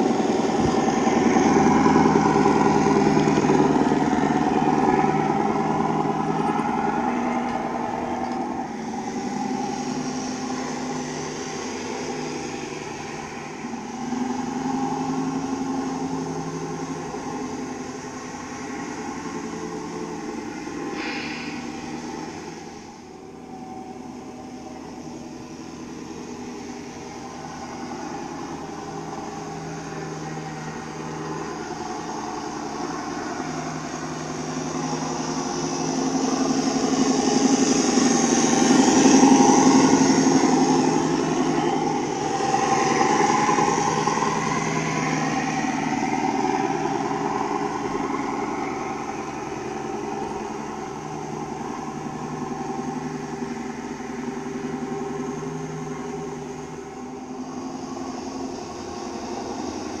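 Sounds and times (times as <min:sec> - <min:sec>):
model truck engine running: 0:00.0 - 1:00.0.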